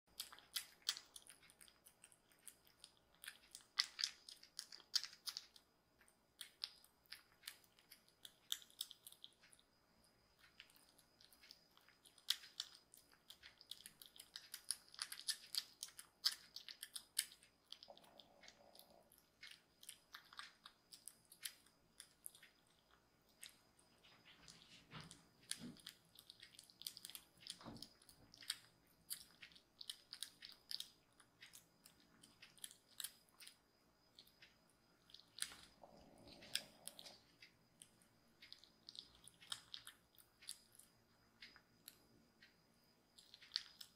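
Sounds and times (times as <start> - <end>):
kittens lapping and smacking: 0.0 - 43.9.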